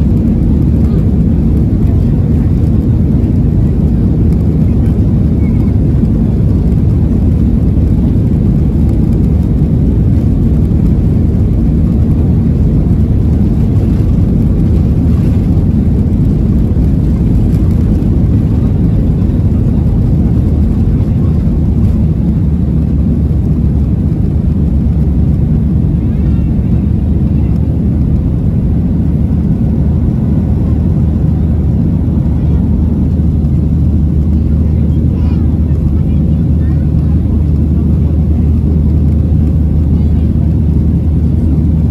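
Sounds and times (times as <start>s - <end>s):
jet engines at takeoff thrust: 0.0s - 41.9s
runway rumble: 0.0s - 41.9s.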